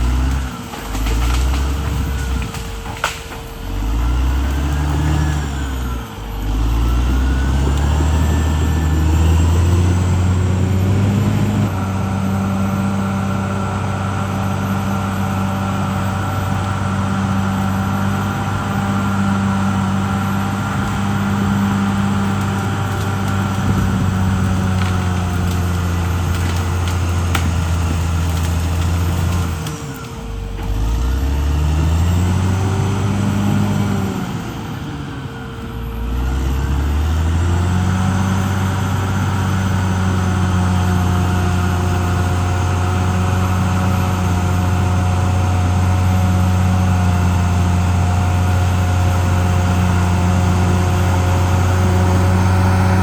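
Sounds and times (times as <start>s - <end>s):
bulldozer diesel engine revving: 0.0s - 53.0s.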